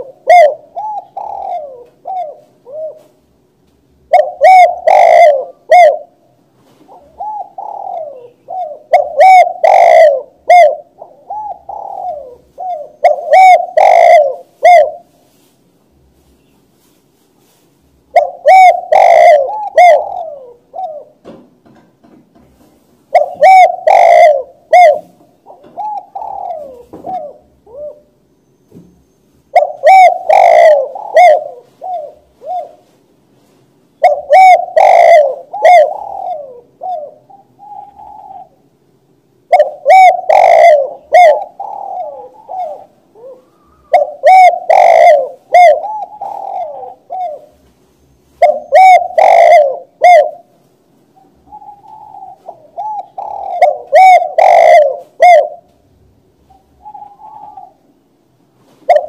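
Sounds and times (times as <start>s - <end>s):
dove cooing: 0.0s - 3.4s, 4.0s - 15.5s, 17.4s - 21.3s, 23.1s - 28.2s, 29.5s - 38.8s, 39.4s - 47.7s, 48.3s - 55.8s, 56.4s - 59.0s.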